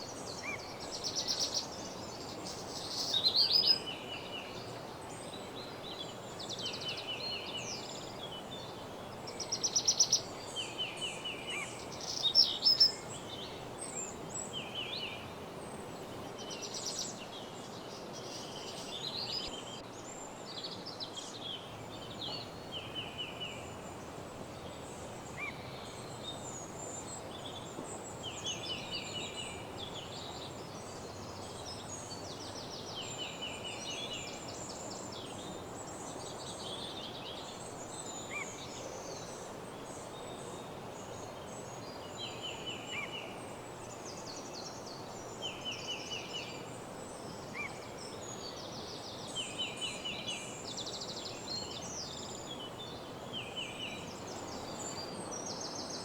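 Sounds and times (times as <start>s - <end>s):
songbirds trilling and chirping: 0.0s - 56.0s
steady background hiss: 0.0s - 56.0s.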